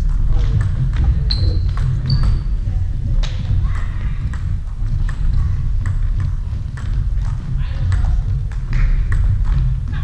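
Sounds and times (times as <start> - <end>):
voices in a sports hall: 0.0 - 10.0.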